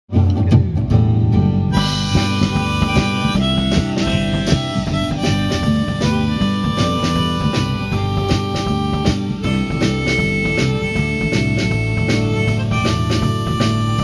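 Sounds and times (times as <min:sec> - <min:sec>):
guitar and drum kit: 0:00.1 - 0:14.0
harmonica long notes: 0:01.7 - 0:14.0.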